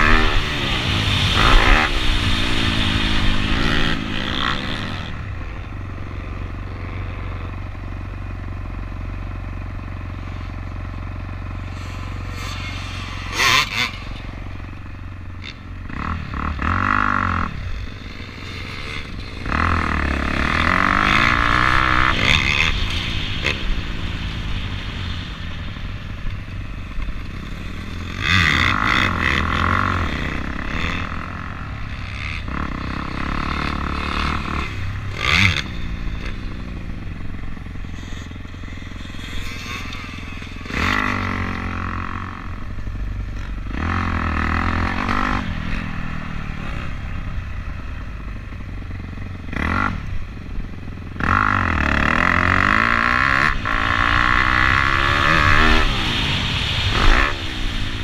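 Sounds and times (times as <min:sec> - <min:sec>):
dirt bike engine revving: 0:00.0 - 0:58.0
low wind rumble: 0:00.0 - 0:58.0.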